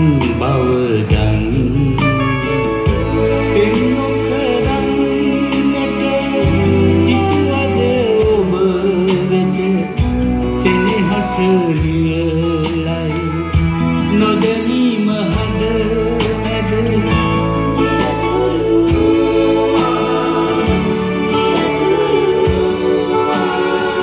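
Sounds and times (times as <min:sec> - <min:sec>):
guitar and bass: 0:00.0 - 0:24.0
person singing: 0:00.0 - 0:24.0.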